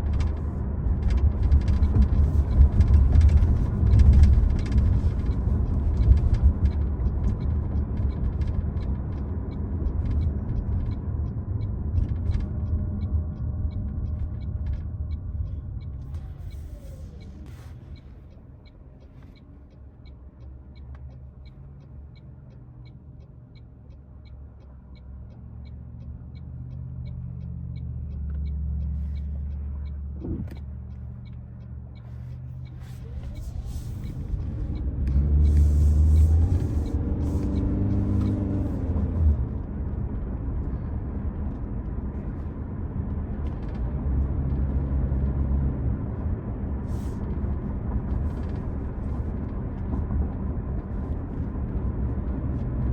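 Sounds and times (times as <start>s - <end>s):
car cabin road rumble: 0.0s - 52.9s.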